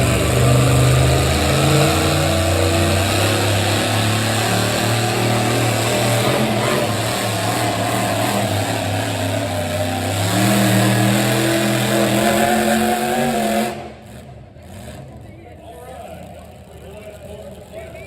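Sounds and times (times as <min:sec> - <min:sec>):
truck engine running under load: 0:00.0 - 0:15.0.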